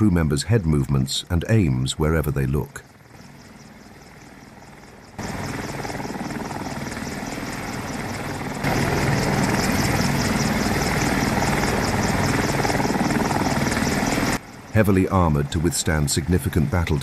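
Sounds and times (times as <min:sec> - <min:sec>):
helicopter rotor beating: 0:00.0 - 0:17.0
helicopter engine noise: 0:01.2 - 0:17.0.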